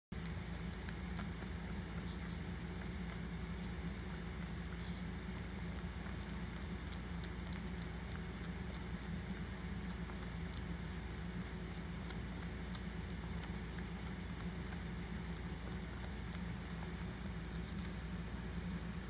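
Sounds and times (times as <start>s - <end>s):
steady low hum: 0.1s - 19.0s
dog licking wet clicks: 0.2s - 19.0s.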